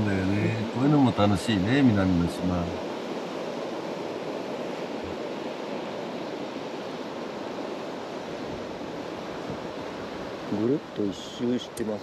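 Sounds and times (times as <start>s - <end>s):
small waves washing over reef: 0.0s - 12.0s.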